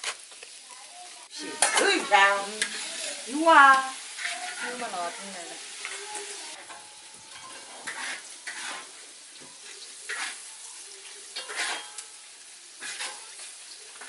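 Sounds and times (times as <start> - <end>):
food sizzling in a wok: 0.0 - 14.0
metal spatula scraping pan: 1.3 - 14.0.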